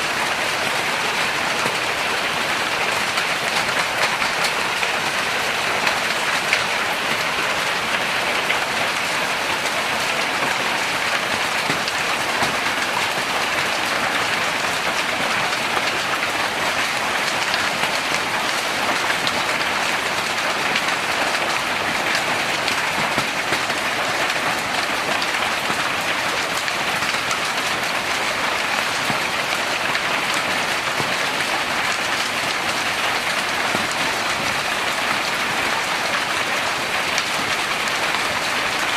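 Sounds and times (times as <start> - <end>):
rain and hail pelting: 0.0 - 38.9.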